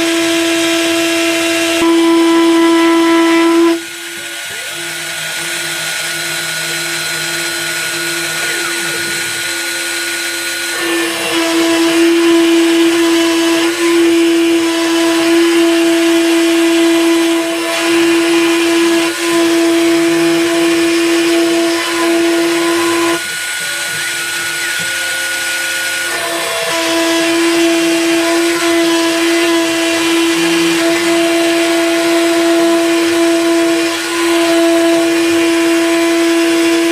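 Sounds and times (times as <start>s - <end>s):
router spindle whining: 0.0s - 36.9s.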